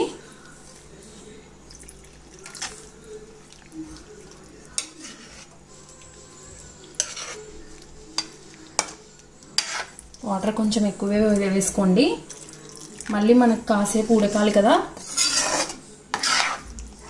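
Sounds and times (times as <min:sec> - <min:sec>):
spoon stirring thick gravy: 0:00.2 - 0:17.0.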